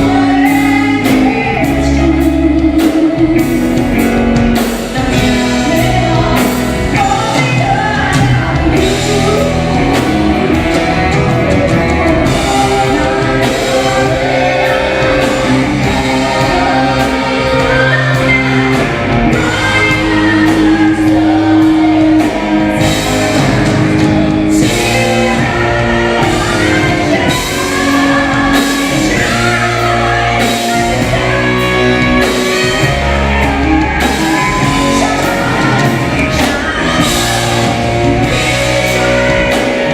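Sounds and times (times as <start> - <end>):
pop-rock band with electric guitar: 0.0 - 39.9
woman singing: 0.0 - 39.9.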